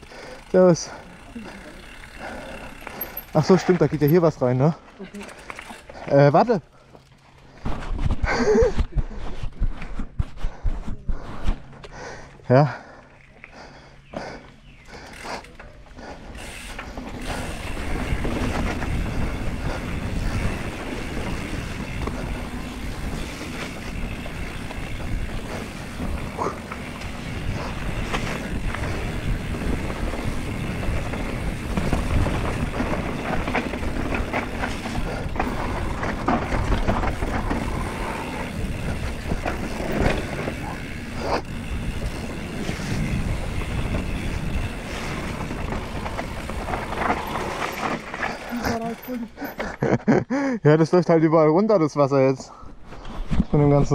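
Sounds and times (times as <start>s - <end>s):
bike tyres rumbling over dirt: 0.0s - 11.8s, 14.1s - 49.1s
bike rattling and clicking: 0.0s - 50.6s.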